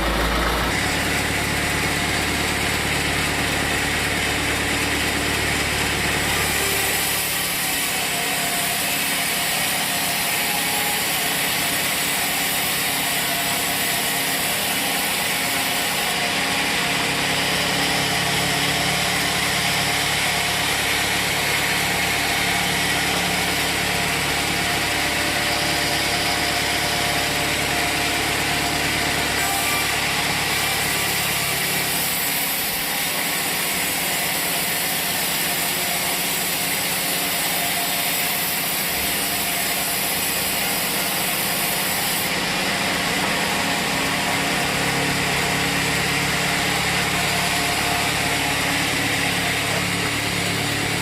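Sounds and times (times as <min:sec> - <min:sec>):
sawmill machinery engine hum: 0:00.0 - 0:51.0.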